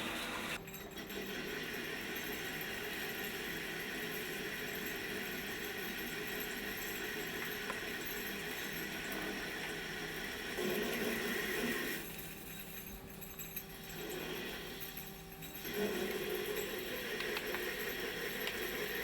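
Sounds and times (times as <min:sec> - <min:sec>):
lathe running with hiss and tones: 0:00.0 - 0:00.6, 0:01.2 - 0:12.0, 0:13.7 - 0:19.0.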